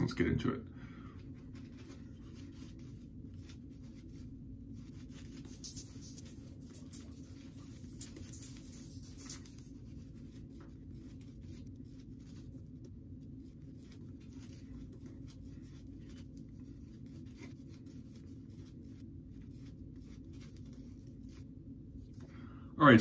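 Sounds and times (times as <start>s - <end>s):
low steady hum: 0.0s - 23.0s
shaving brush scratching on stubble: 1.7s - 21.6s.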